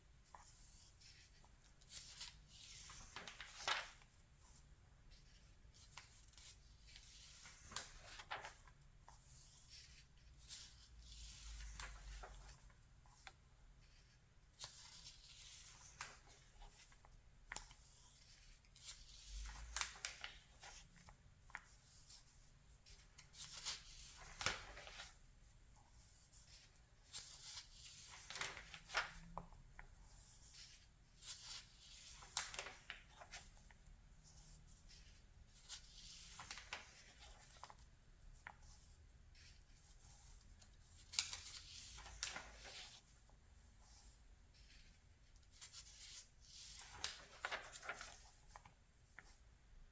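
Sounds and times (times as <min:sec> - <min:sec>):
magazine pages rustling: 0:00.2 - 0:49.4.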